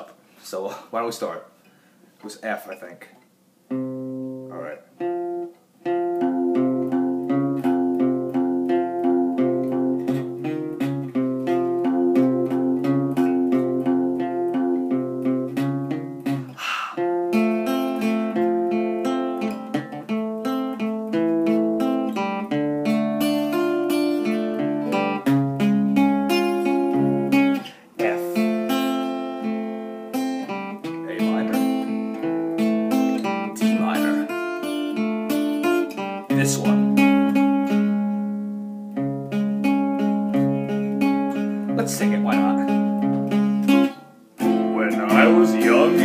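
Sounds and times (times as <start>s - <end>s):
acoustic guitar strumming chords: 3.7s - 46.0s.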